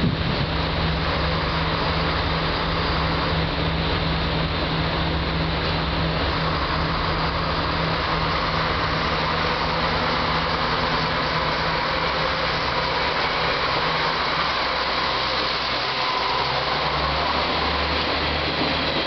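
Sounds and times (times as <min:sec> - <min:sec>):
diesel railcar engine droning: 0:00.0 - 0:19.0
train cars rolling past: 0:00.0 - 0:19.0.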